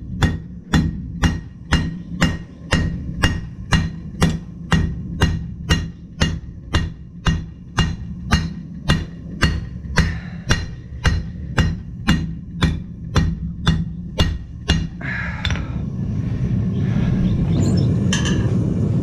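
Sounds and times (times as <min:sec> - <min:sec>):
hammer striking metal on anvil: 0:00.0 - 0:15.7
steady low hum: 0:00.0 - 0:19.0.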